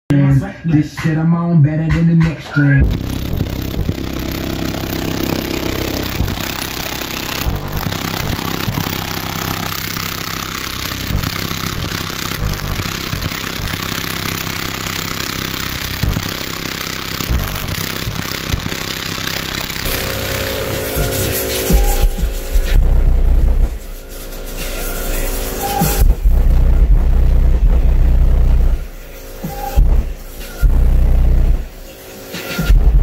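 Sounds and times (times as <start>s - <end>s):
distorted bass-heavy music: 0.1s - 33.0s.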